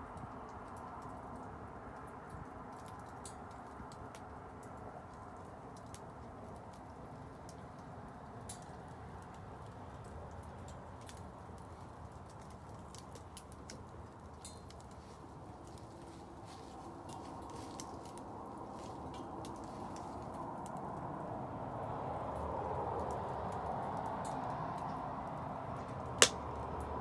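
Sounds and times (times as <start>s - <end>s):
bonfire crackling and popping: 0.0s - 27.0s
low rush of flames: 0.0s - 27.0s.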